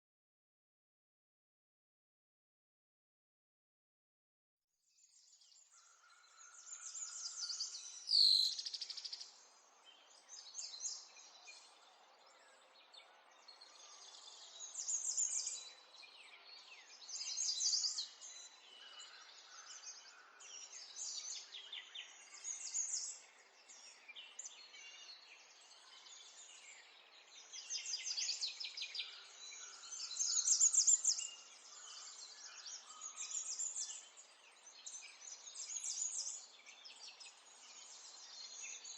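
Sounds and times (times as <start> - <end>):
small songbirds singing: 4.8 - 38.9
faint outdoor hiss: 5.4 - 38.9.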